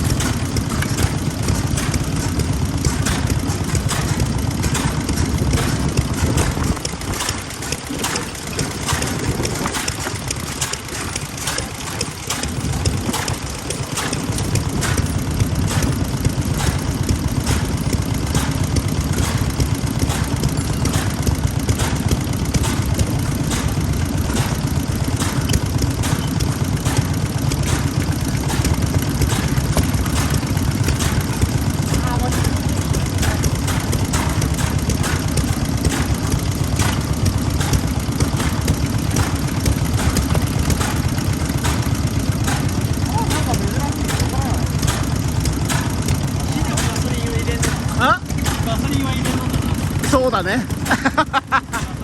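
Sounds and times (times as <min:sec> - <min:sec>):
stationary engines knocking: 0:00.0 - 0:52.0.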